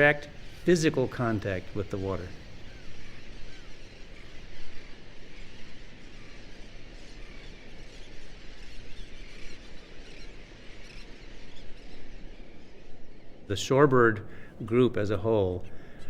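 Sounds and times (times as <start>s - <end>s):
flock of birds squealing: 0.0s - 16.0s.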